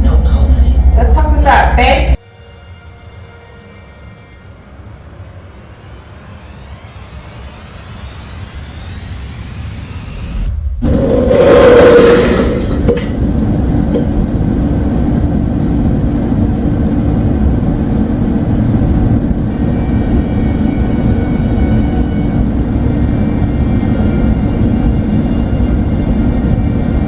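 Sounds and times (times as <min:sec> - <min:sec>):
low rumbling drone: 0:00.0 - 0:02.2, 0:04.4 - 0:27.0.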